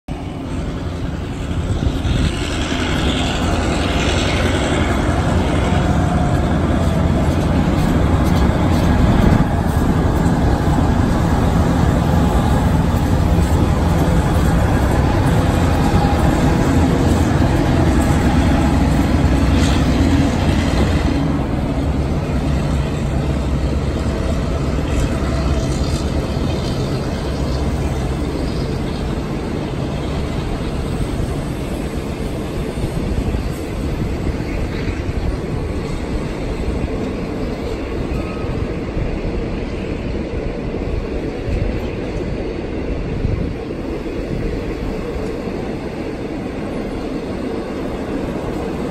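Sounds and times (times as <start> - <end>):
train engines rumbling: 0.1 - 48.9.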